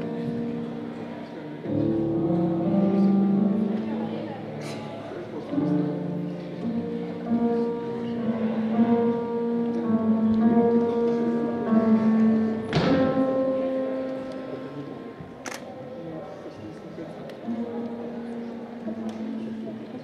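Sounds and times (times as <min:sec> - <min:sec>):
music with long held chords: 0:00.0 - 0:15.3, 0:17.4 - 0:20.0.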